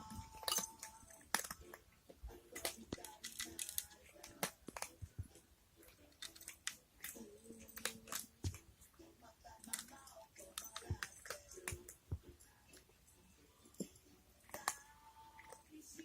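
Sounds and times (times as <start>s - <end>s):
cat crunching dry kibble: 0.1s - 13.0s, 13.6s - 16.0s.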